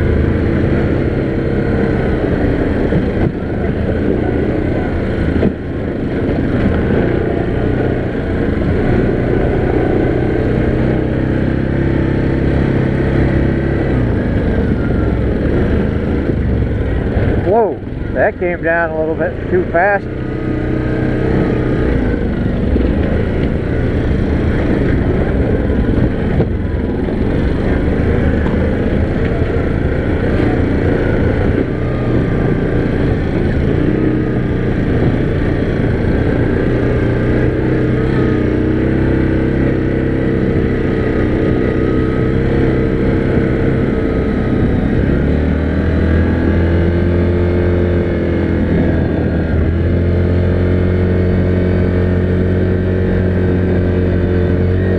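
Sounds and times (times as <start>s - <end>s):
atv engine running: 0.0s - 54.9s
rumble of riding noise: 0.0s - 54.9s.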